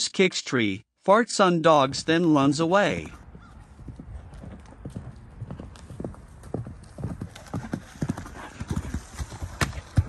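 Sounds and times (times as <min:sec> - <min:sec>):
horse hooves on dirt: 0:01.8 - 0:10.0.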